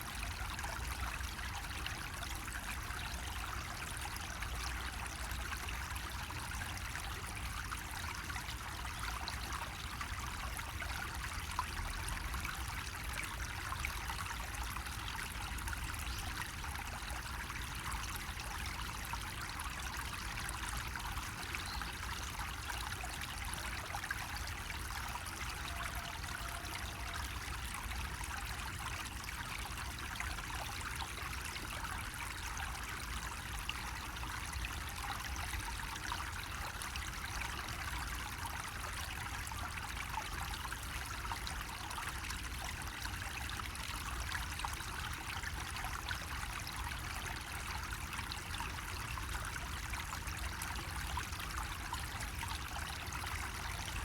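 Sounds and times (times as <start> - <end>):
water trickling into basin: 0.0 - 54.0.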